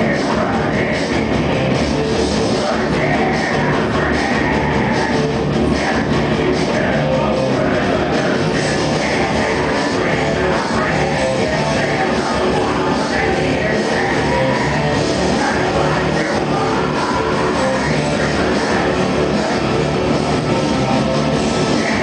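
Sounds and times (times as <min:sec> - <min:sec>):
live industrial metal band: 0:00.0 - 0:22.0.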